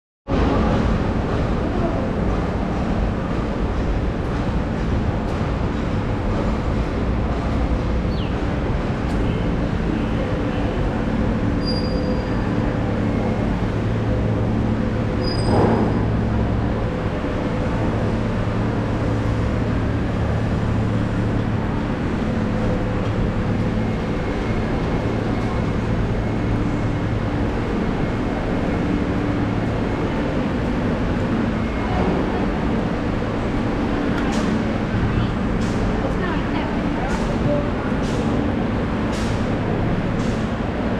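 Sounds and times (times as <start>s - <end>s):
low machinery tones: 0.3s - 40.9s
station concourse hum: 0.3s - 40.9s.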